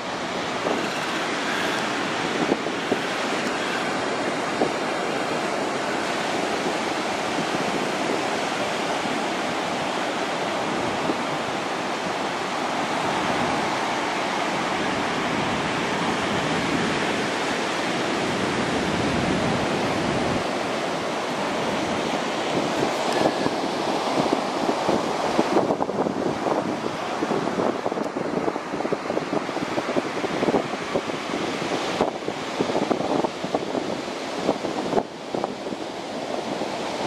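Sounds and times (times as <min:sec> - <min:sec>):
ocean surf breaking: 0:00.0 - 0:37.0.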